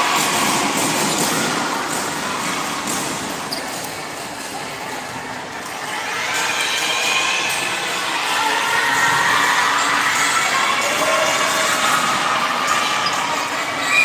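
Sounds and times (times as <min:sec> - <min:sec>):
crowd noise: 0:00.0 - 0:14.0.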